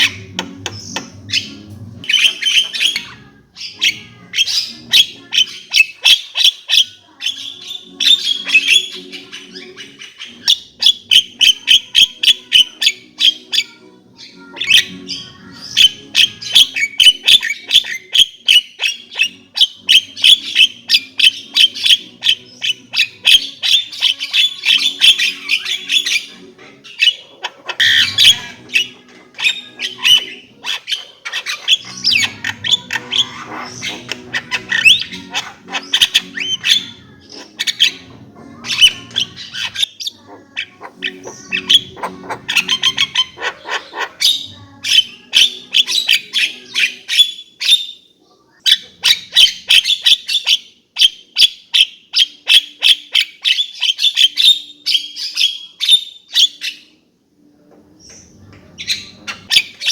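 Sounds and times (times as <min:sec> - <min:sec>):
myna chattering song: 0:00.0 - 0:50.4.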